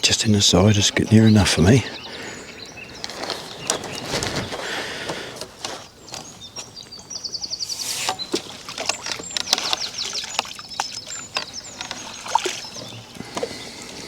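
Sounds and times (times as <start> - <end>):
songbird trilling and chirping: 0.0 - 14.0.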